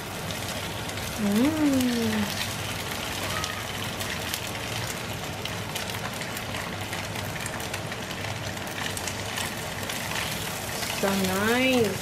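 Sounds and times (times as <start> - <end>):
tofu sizzling in hot oil: 0.0 - 12.0.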